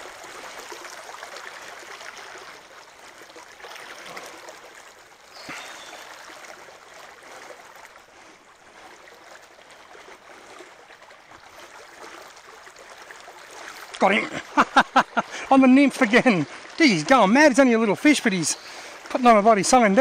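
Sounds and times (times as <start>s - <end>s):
creek water running: 0.0s - 20.0s.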